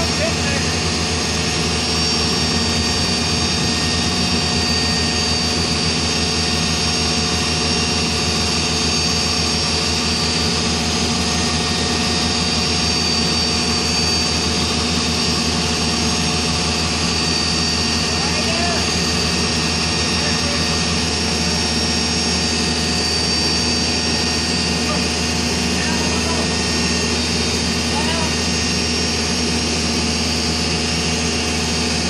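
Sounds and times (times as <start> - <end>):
diesel engine running: 0.0 - 32.0
high steady whine: 0.0 - 32.0.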